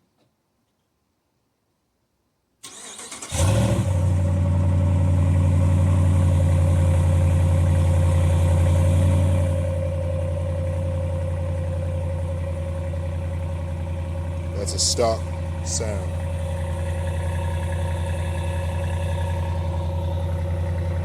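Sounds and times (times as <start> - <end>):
pickup engine idling: 3.9 - 21.0.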